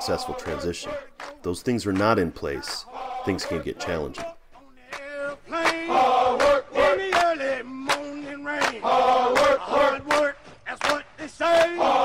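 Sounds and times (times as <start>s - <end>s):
men chanting marching cadence: 0.0s - 12.0s.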